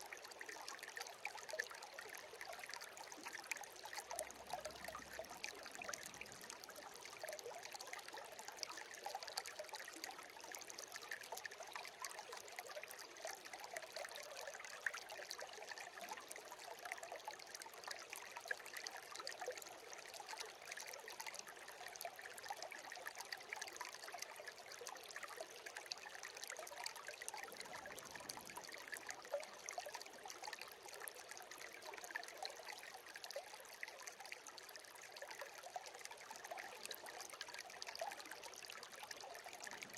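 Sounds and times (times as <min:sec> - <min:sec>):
brook trickling over stones: 0:00.0 - 0:39.9.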